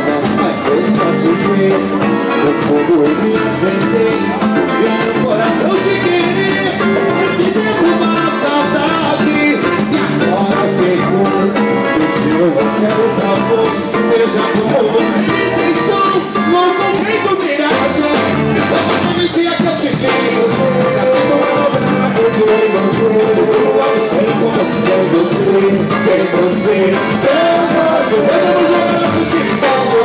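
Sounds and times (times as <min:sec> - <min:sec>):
cavaquinho: 0:00.0 - 0:30.0
drums: 0:00.0 - 0:30.0
guitar: 0:00.0 - 0:30.0
man singing into microphone: 0:00.0 - 0:30.0.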